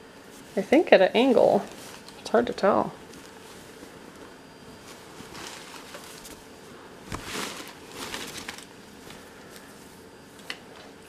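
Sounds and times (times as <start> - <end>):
fabric dress rustling: 0.2 - 2.2, 3.0 - 9.9.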